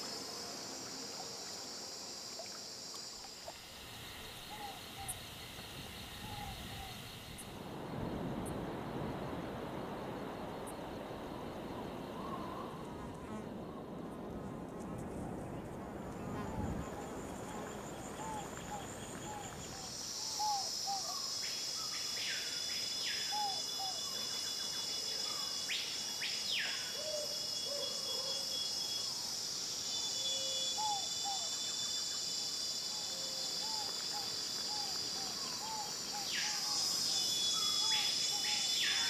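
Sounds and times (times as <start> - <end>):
high-pitched insect chorus: 0.0 - 14.1, 16.2 - 39.0.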